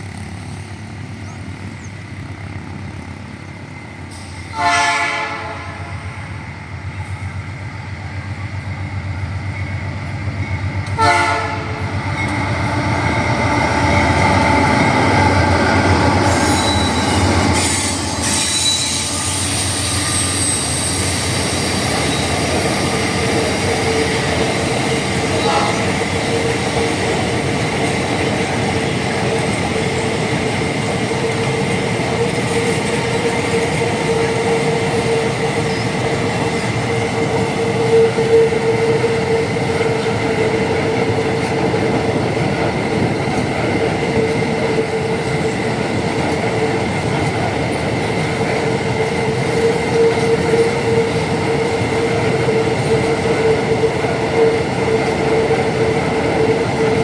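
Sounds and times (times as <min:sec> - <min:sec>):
train wagons rumbling: 0:00.0 - 0:57.0
wheels ringing on rails: 0:06.8 - 0:57.0.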